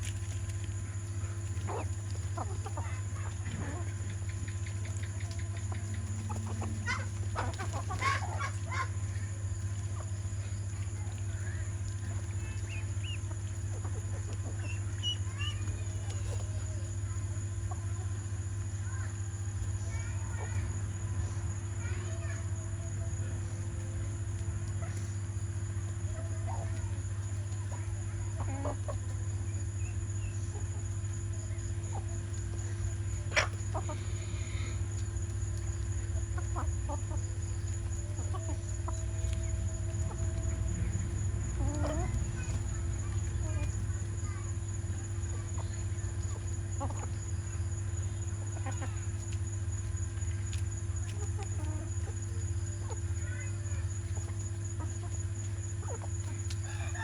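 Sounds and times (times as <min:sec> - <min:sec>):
chickens clucking: 0:00.0 - 0:57.0
steady low hum: 0:00.0 - 0:57.0.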